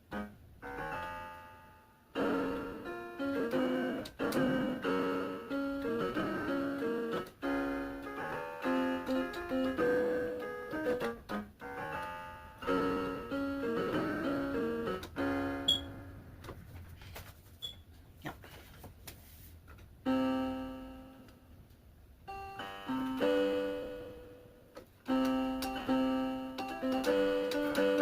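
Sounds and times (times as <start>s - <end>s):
keyboard piano chords: 0.0s - 16.5s, 19.9s - 28.0s.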